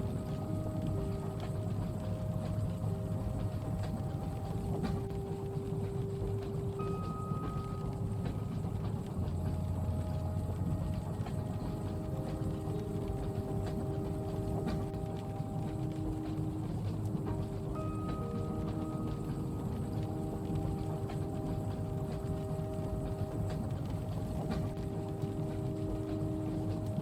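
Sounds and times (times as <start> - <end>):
train carriage rumbling on track: 0.0 - 27.0.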